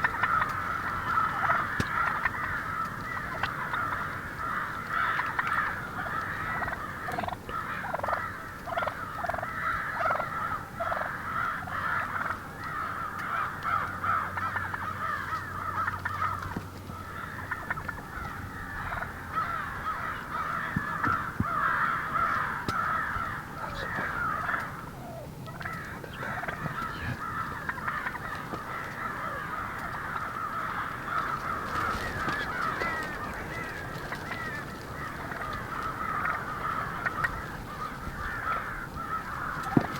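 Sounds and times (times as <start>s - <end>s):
bird chorus: 0.0s - 39.9s.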